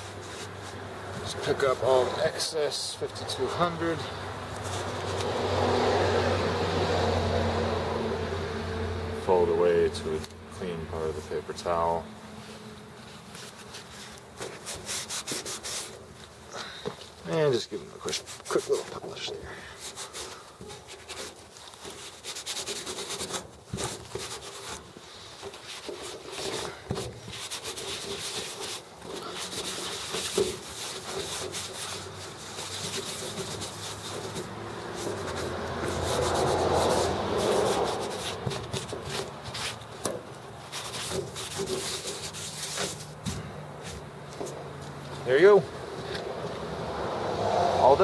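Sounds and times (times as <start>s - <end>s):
paper towel rubbing on aluminum: 0.0s - 6.0s, 10.9s - 16.4s, 17.5s - 44.8s.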